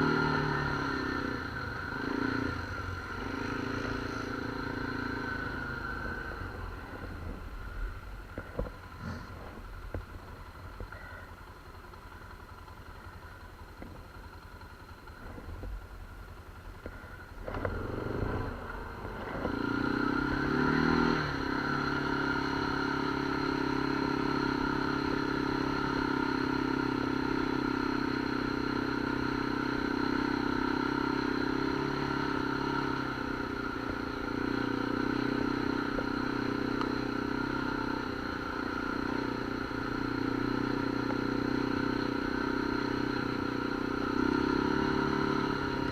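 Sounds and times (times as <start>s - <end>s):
off-road vehicle engine: 0.0s - 45.9s.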